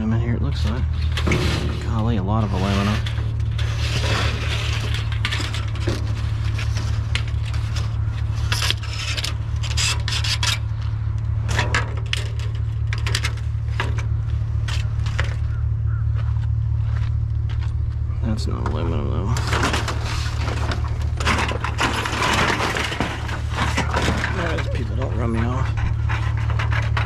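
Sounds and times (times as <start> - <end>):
steady low hum: 0.0 - 27.0
scrap metal clattering and scraping: 0.1 - 15.8, 16.8 - 27.0.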